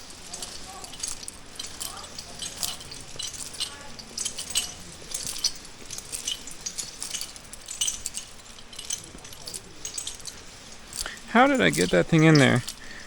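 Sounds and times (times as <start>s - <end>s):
metal climbing hardware clinking: 0.0s - 13.0s.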